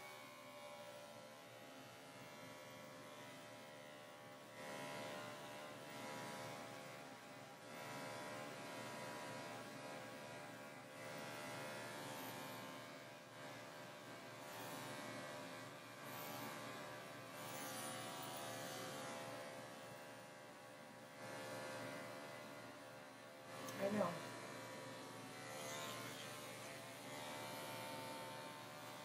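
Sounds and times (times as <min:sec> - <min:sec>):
electric clippers buzzing: 0:00.0 - 0:06.9, 0:07.7 - 0:12.8, 0:13.6 - 0:20.3, 0:21.1 - 0:29.0.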